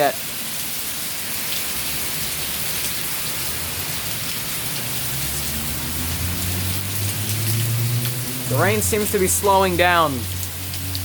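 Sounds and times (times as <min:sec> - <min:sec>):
heavy rain on surfaces: 0:00.0 - 0:11.0.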